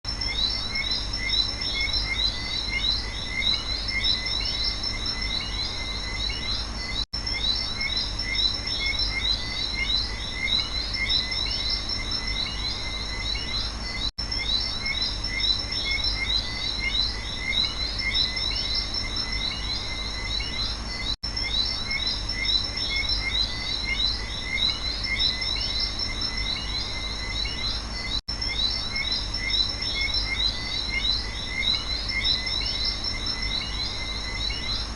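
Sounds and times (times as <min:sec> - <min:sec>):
frogs and insects chirping: 0:00.1 - 0:34.9.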